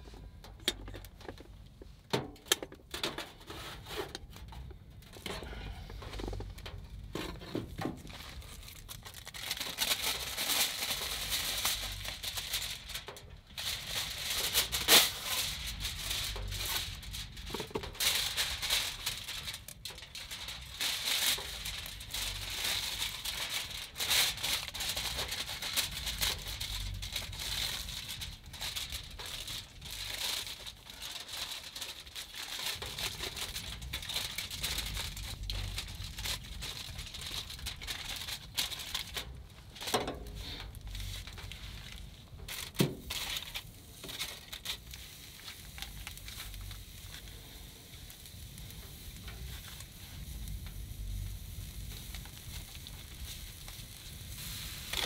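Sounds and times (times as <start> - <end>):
aluminium foil crinkling: 0.0 - 55.0.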